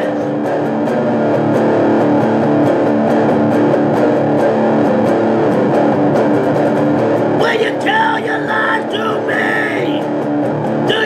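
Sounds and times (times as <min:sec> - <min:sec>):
electric guitar metal riff: 0:00.0 - 0:11.0.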